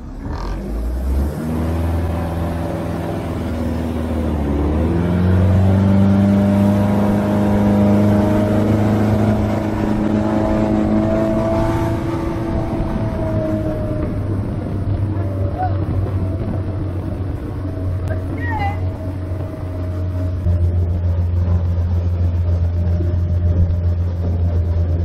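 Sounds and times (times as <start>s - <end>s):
boat engine revving: 0.0s - 25.0s
water rushing from hull: 0.0s - 25.0s.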